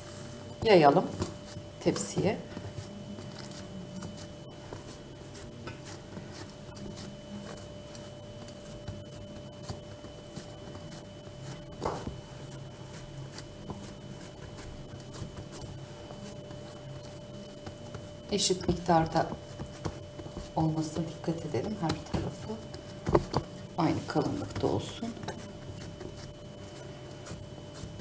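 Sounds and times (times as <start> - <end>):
hands patting dough: 0.0 - 28.0.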